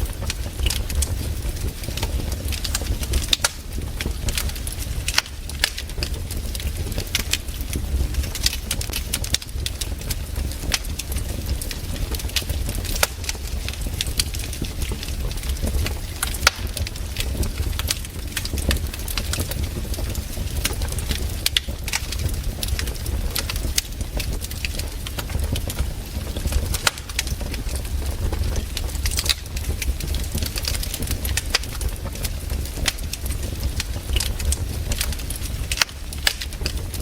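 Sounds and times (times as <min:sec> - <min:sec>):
campfire crackling and popping: 0:00.0 - 0:37.0
steady low rumble: 0:00.0 - 0:37.0.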